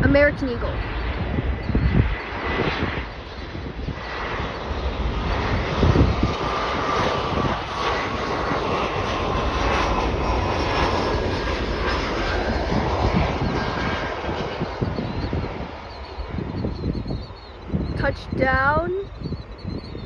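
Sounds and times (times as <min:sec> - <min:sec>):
jet engines rushing with whine: 0:00.0 - 0:20.0
low rumble: 0:00.0 - 0:20.0.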